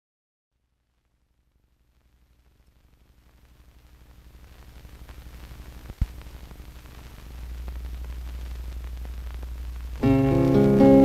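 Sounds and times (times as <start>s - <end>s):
faint hiss: 0.6s - 11.0s.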